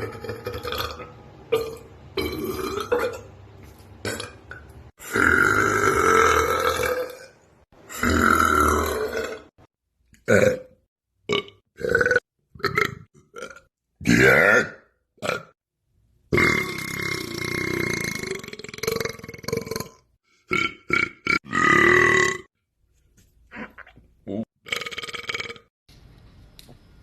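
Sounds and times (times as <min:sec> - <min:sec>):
person burping: 0:00.0 - 0:03.3, 0:04.0 - 0:09.6, 0:10.2 - 0:15.6, 0:16.3 - 0:22.5, 0:23.5 - 0:25.7.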